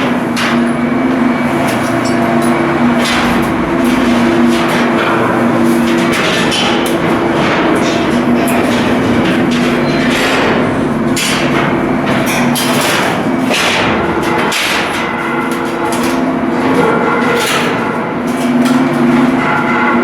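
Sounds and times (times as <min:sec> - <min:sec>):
machinery drone: 0:00.0 - 0:20.0
hammer strikes: 0:01.6 - 0:20.0.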